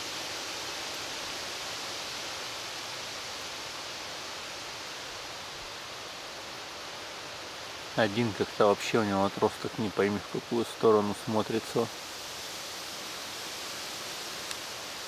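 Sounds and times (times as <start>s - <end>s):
wind rustling leaves and grass: 0.0s - 15.0s.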